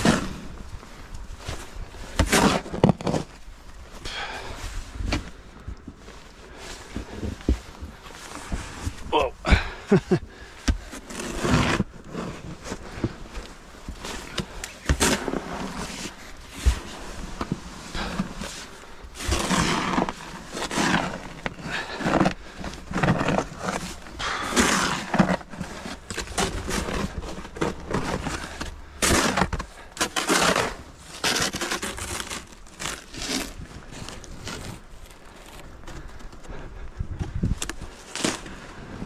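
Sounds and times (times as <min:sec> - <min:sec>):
snow shovel scraping and crunching: 0:00.0 - 0:05.4, 0:06.0 - 0:36.4, 0:37.4 - 0:39.0.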